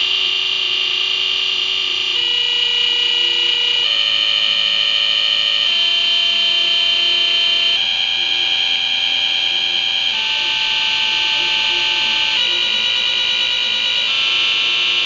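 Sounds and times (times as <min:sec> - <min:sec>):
harsh buzzy electronic tone: 0:00.0 - 0:15.0.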